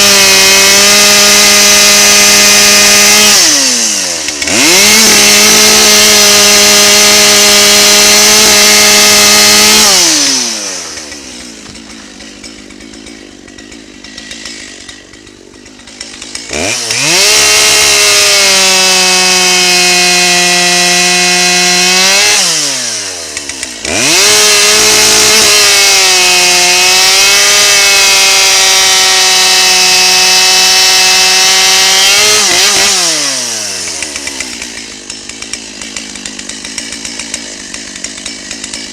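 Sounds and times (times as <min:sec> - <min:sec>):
chainsaw cutting logs: 0:00.0 - 0:38.9
chainsaw idling: 0:00.0 - 0:38.9.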